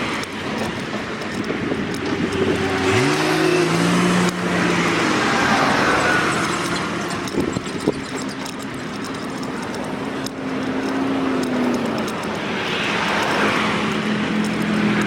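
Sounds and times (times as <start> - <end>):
road traffic passing: 0.0 - 15.0
vehicle engine accelerating: 0.0 - 15.0.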